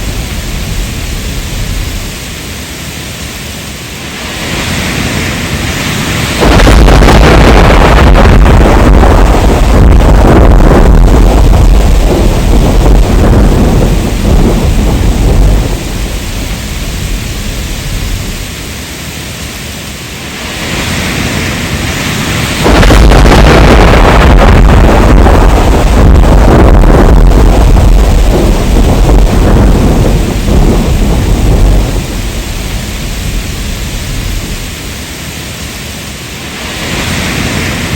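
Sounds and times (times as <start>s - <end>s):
deep rumbling thunder: 0.0s - 2.4s, 4.3s - 18.8s, 20.4s - 35.0s
heavy rain: 0.0s - 37.9s.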